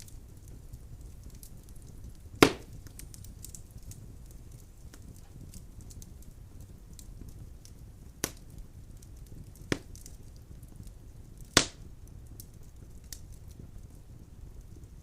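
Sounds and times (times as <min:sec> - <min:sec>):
firewood popping: 0:00.0 - 0:15.0
low rumble of flames: 0:00.0 - 0:15.0
small fire crackles: 0:00.0 - 0:15.0.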